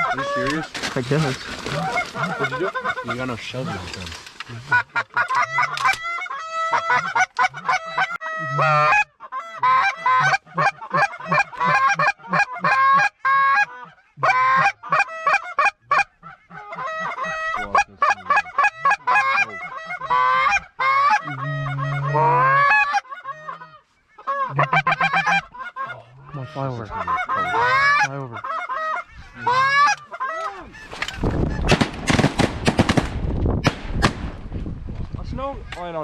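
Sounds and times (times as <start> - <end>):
geese honking: 0.0 - 31.8.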